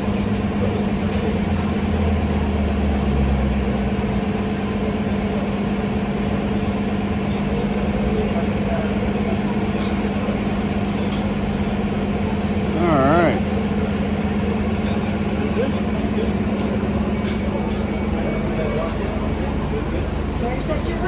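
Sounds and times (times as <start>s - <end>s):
bus idling hum: 0.0s - 21.0s.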